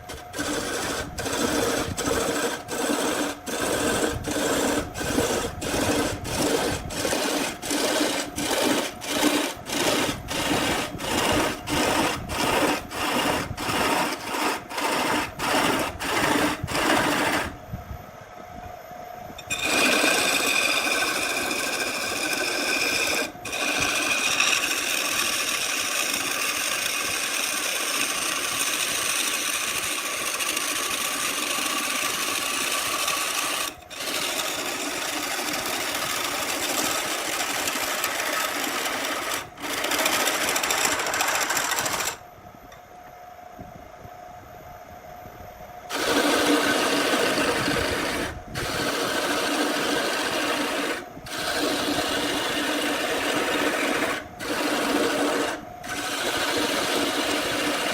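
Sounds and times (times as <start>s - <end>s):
power tool whining: 0.0s - 17.6s, 19.4s - 42.2s, 45.9s - 57.9s
woodworking tool strokes: 0.0s - 17.6s, 19.4s - 42.2s, 45.9s - 57.9s.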